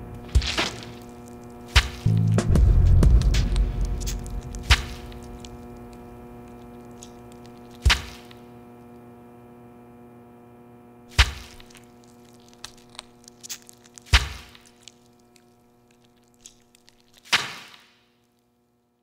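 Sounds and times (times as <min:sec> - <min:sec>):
low electrical hum: 0:00.0 - 0:17.3.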